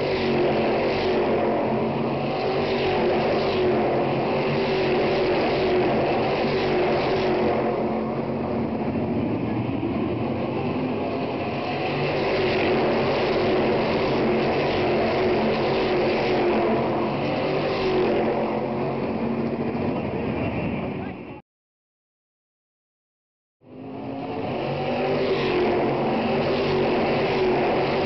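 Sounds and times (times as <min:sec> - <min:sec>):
race cars passing: 0:00.0 - 0:21.3, 0:23.7 - 0:28.0.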